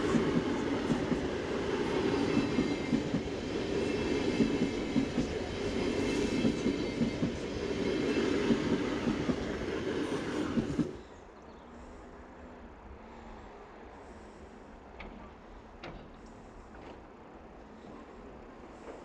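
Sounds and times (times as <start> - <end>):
train wheels rumbling on rail: 0.0 - 11.2, 13.0 - 19.0.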